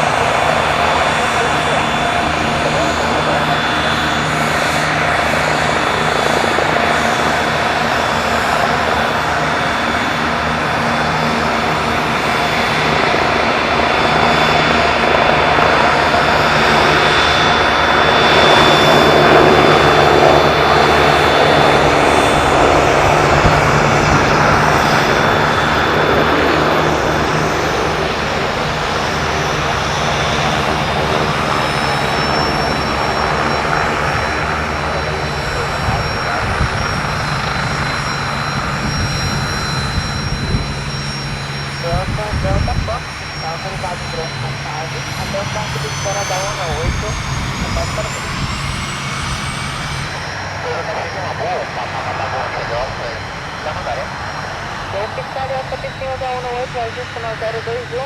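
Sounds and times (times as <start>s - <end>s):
helicopter turbine whine: 0.0s - 58.0s.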